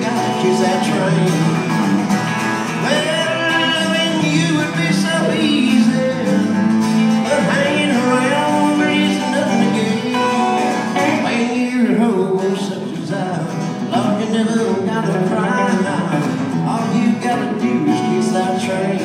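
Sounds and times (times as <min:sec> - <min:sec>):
acoustic guitar: 0:00.0 - 0:19.0
country band playing: 0:00.0 - 0:19.0.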